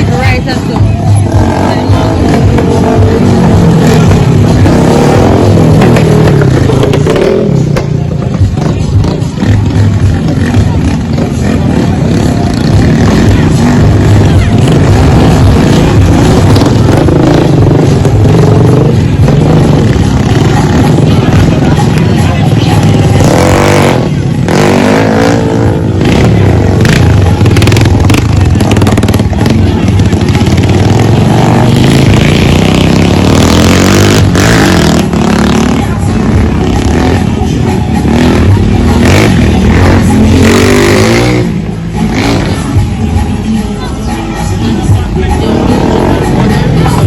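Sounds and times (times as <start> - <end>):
vehicle engine revving: 0.0 - 43.4.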